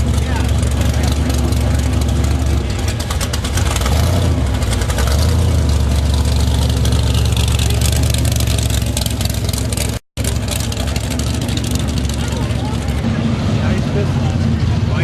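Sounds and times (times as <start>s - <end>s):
hot rod engine rumbling: 0.0s - 15.0s.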